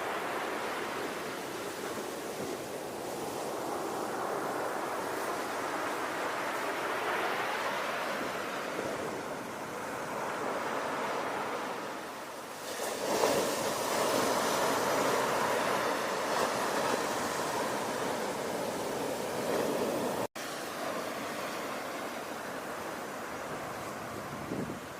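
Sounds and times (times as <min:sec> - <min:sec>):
ocean waves washing onto shore: 0:00.0 - 0:24.9.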